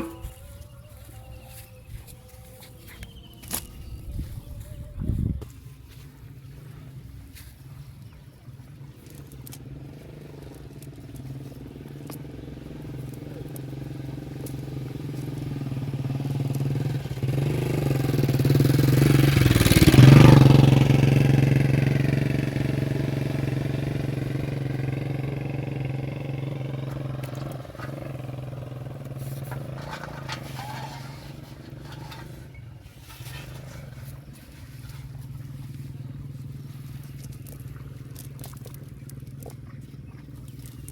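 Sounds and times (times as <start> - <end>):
small engine passing by: 0.0 - 40.9.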